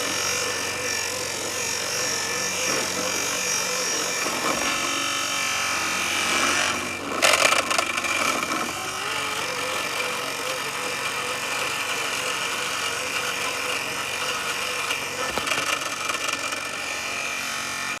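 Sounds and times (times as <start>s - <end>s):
robotic lawn mower motor whine: 0.0s - 18.0s.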